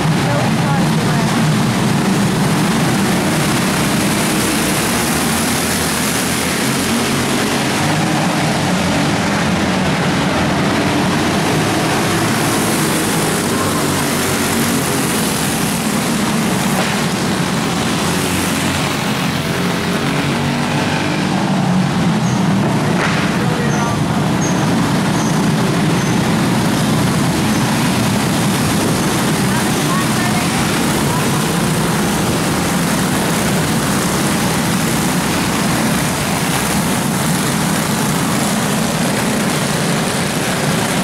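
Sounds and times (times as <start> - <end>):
racing kart engines droning: 0.0 - 41.0.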